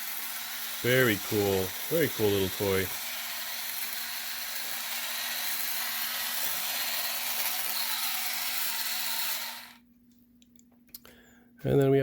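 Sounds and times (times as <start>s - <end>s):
toy motor whirring: 0.0s - 9.8s.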